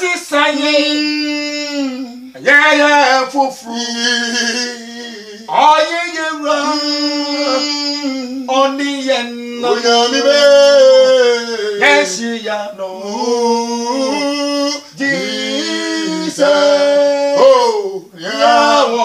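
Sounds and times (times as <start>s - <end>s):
men singing without instruments: 0.0s - 19.0s.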